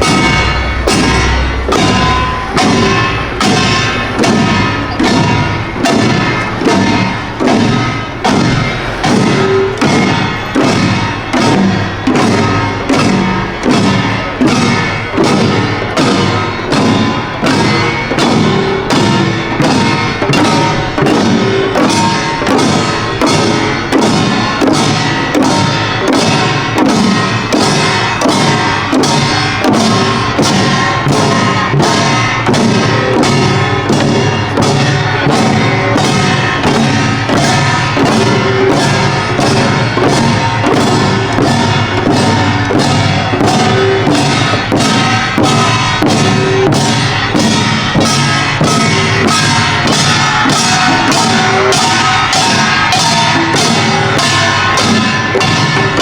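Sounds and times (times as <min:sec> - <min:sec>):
drums beating: 0:00.0 - 0:56.0
hand gongs ringing: 0:00.0 - 0:56.0.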